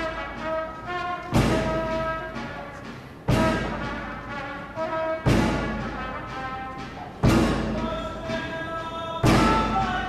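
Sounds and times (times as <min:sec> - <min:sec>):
held brass notes: 0:00.0 - 0:10.0
loud percussion strike: 0:00.0 - 0:10.0.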